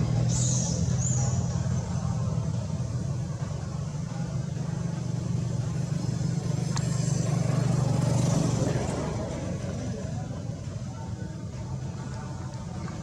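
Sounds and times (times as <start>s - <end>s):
low rumble of running motor: 0.0s - 13.0s.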